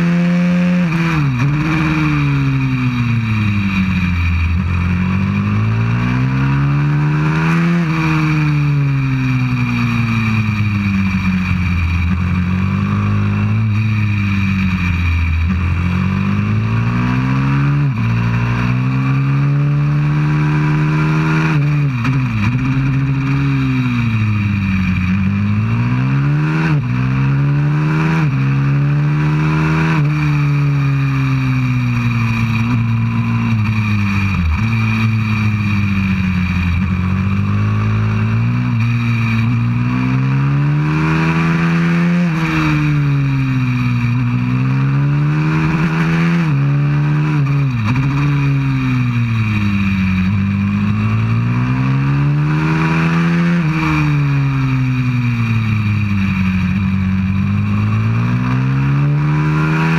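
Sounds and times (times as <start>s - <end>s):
pit bike engine accelerating: 0.0s - 59.9s.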